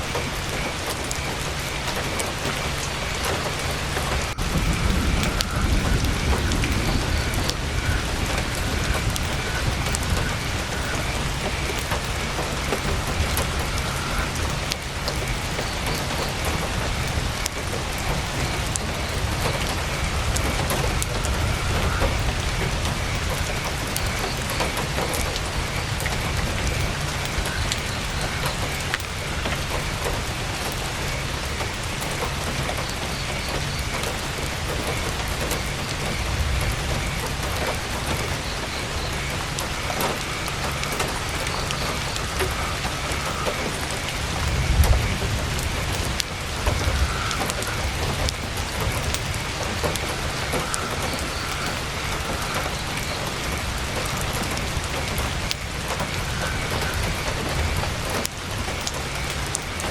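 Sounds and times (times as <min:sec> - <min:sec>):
campfire crackles: 0:00.0 - 0:59.9
heavy rain on tent fabric: 0:00.0 - 0:59.9.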